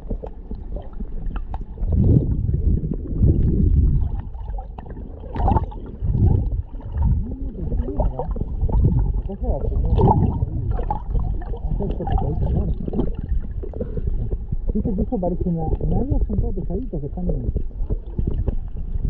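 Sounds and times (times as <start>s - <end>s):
muffled underwater sloshing: 0.0s - 19.0s.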